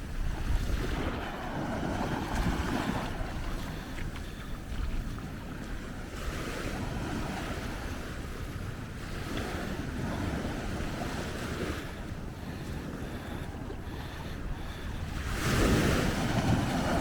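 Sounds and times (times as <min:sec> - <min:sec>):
ocean surf washing onto beach: 0:00.0 - 0:17.0
wind rumbling on microphone: 0:00.0 - 0:17.0.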